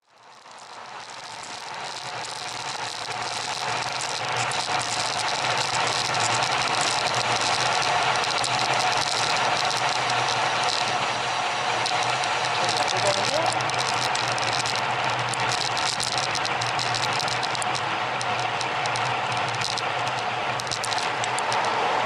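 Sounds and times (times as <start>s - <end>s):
rumbling rattling vehicle: 0.0s - 22.0s.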